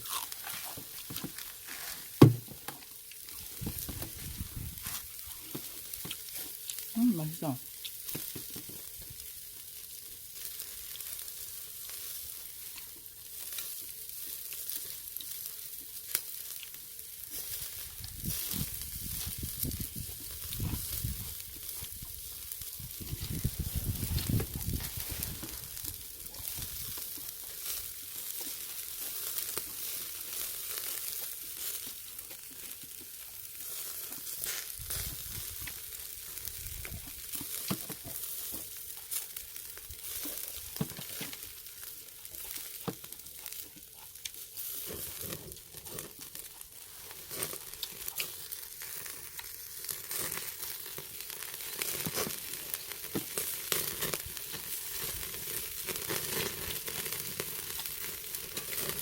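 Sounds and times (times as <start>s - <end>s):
meat sizzling on charcoal: 0.0s - 59.0s.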